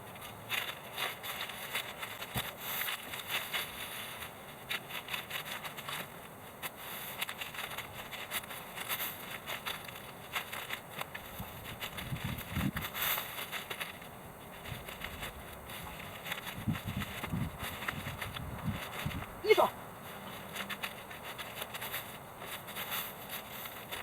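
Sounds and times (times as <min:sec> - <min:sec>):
dry grass crunching and crackling: 0:00.0 - 0:24.0.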